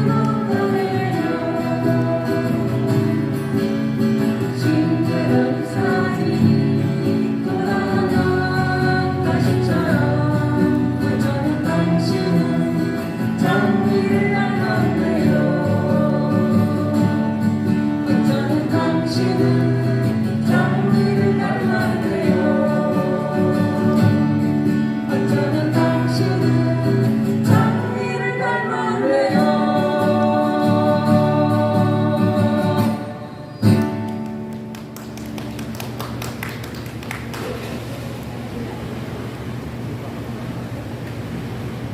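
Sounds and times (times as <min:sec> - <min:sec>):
person singing: 0:00.0 - 0:03.6, 0:04.3 - 0:34.2
acoustic guitar: 0:00.0 - 0:41.9.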